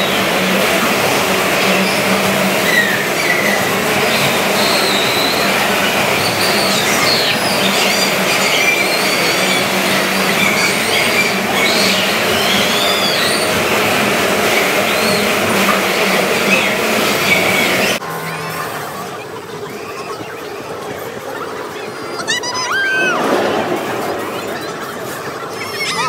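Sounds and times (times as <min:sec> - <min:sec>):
bumper car ride din: 0:00.0 - 0:26.0
high squeals: 0:00.0 - 0:26.0.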